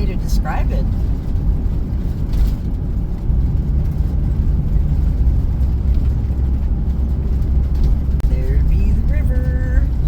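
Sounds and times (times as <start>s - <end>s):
engine and road noise rumble: 0.0s - 10.0s.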